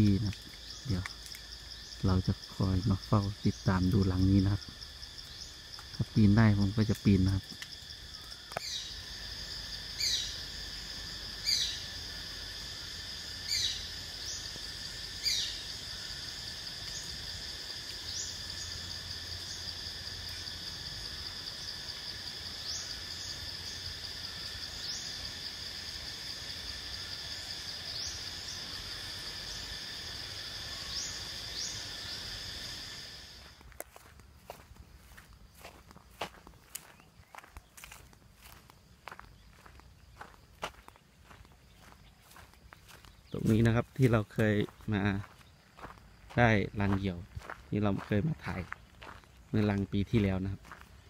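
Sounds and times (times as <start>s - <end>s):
chorus of insects: 0.0s - 51.0s.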